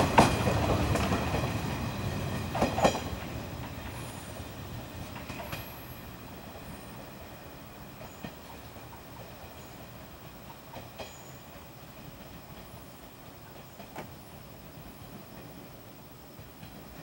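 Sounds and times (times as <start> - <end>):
rail joint clicks: 0.0 - 17.0
train wheels rumbling on rail: 0.0 - 17.0.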